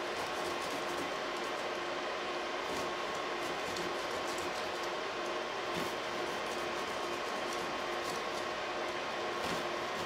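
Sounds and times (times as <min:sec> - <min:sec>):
steady hum and hiss: 0:00.0 - 0:10.0.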